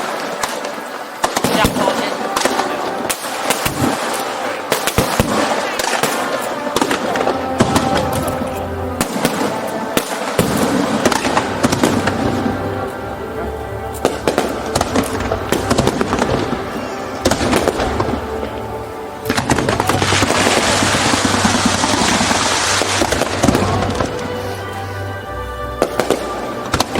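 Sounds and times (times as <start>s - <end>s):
fireworks bangs and crackles: 0.0s - 26.9s
music over loudspeakers: 0.0s - 26.9s.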